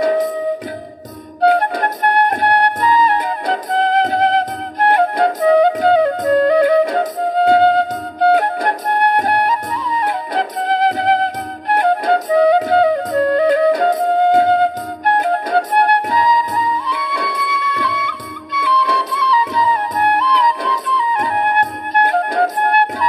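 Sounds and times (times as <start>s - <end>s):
steady drum beat: 0.0s - 23.0s
wind instrument melody: 0.0s - 23.0s.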